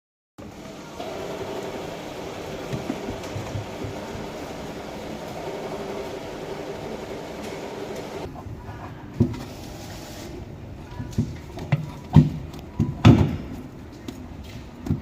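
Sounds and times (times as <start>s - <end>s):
steady mechanical hum: 0.4s - 15.0s.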